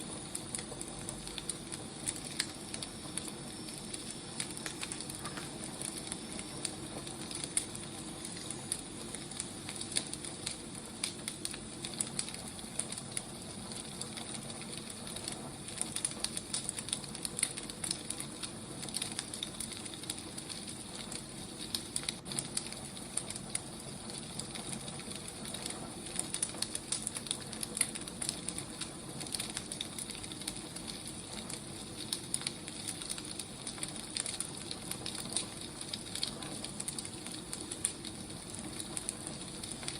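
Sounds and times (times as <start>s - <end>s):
firewood crackling and hissing: 0.0s - 39.9s.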